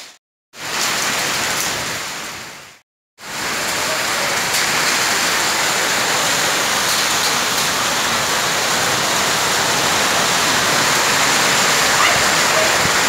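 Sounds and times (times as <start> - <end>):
heavy rain and hail: 0.0 - 13.0.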